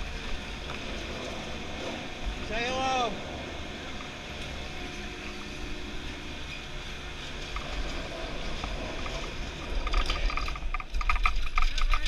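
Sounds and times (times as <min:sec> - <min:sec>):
chairlift rushing noise: 0:00.0 - 0:12.0
low rumble: 0:00.0 - 0:12.0.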